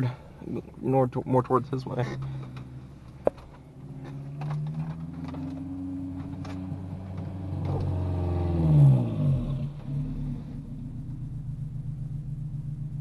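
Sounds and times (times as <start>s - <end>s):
car engine running while driving: 0.0s - 13.0s.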